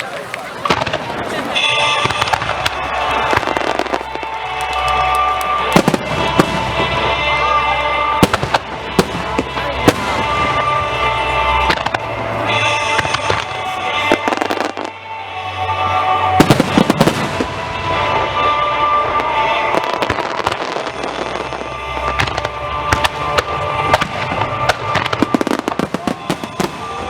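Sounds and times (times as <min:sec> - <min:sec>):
fireworks crackling: 0:00.0 - 0:27.0
music: 0:00.5 - 0:27.0
firework shells bursting with bangs: 0:00.6 - 0:07.5, 0:08.1 - 0:14.9, 0:16.3 - 0:27.0.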